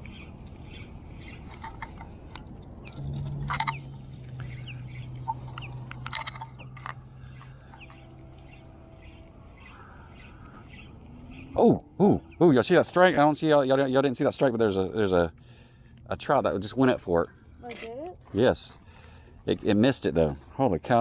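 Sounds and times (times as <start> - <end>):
birds chirping: 0.0 - 17.6
steady low hum: 0.0 - 17.7.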